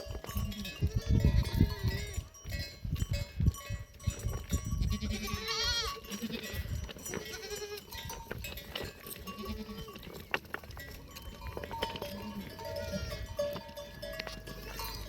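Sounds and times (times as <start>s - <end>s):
goats and sheep bleating: 0.0s - 2.6s, 4.2s - 15.0s.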